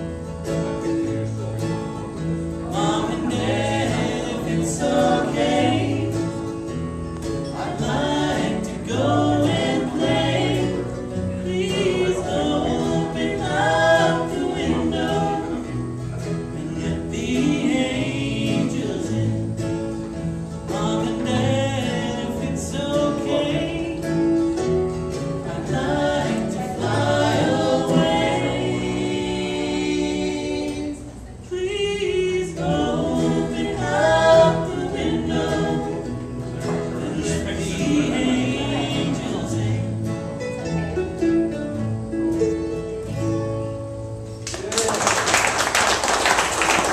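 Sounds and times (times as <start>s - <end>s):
banjo: 0.0s - 31.2s, 32.5s - 44.0s
mandolin: 0.0s - 44.7s
acoustic guitar: 0.0s - 46.9s
voices singing close harmony: 0.7s - 40.5s.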